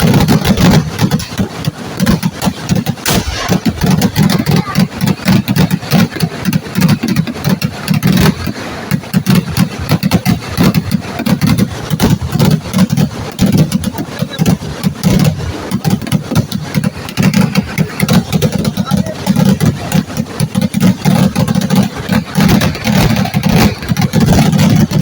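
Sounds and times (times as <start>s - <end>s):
firecracker bangs: 0.0s - 25.0s.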